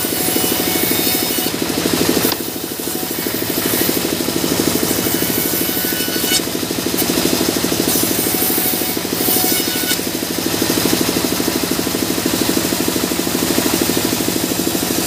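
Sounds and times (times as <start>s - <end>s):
band saw running: 0.0s - 15.0s
saw blade ripping wood: 0.0s - 15.0s.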